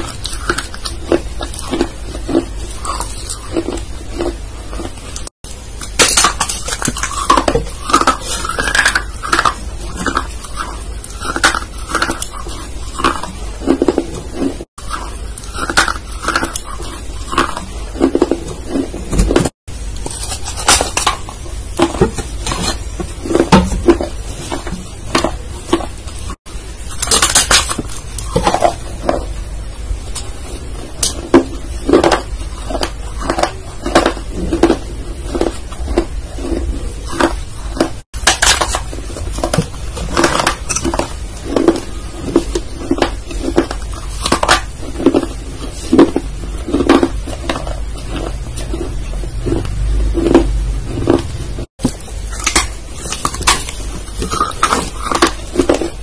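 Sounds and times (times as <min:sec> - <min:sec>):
wet chewing and mouth sounds: 0:00.0 - 0:29.4, 0:30.1 - 0:56.0
steady low hum: 0:00.0 - 0:56.0.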